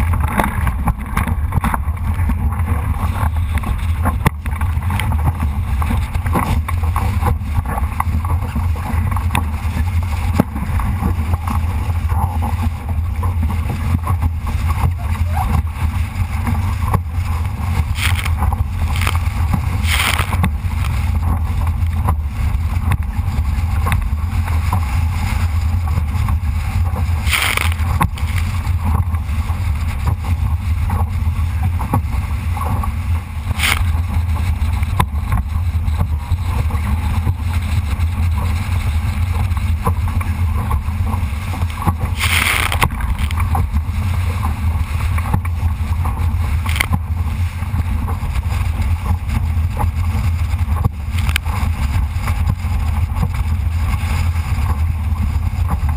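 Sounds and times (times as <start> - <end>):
water washing along hull: 0.0 - 55.9
wind buffeting microphone: 0.0 - 55.9.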